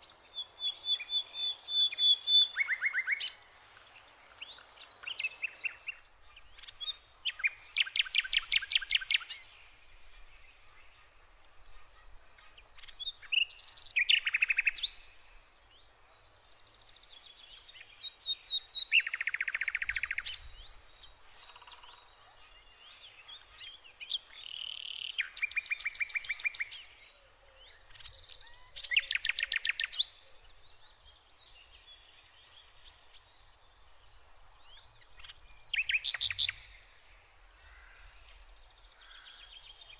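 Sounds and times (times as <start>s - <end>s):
soft bird chirps: 0.0s - 39.9s
songbirds trilling: 0.0s - 39.9s.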